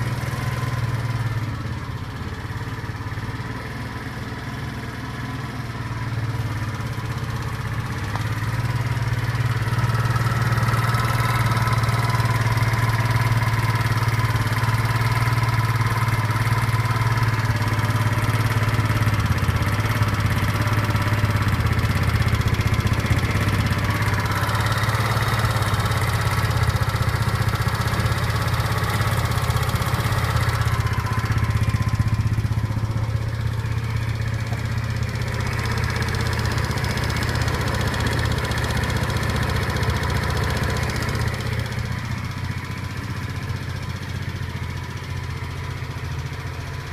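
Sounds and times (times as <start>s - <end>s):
engine running with a knock: 0.0s - 46.9s.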